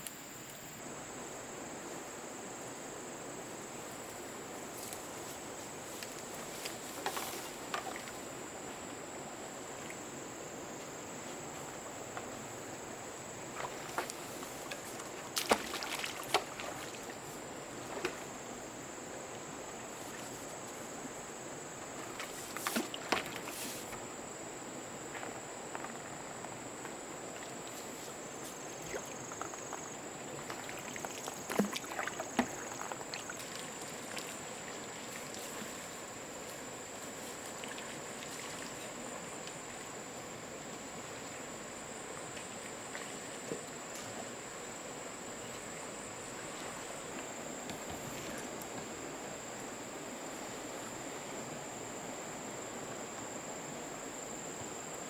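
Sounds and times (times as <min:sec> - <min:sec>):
soft water noise: 0:00.0 - 0:55.0.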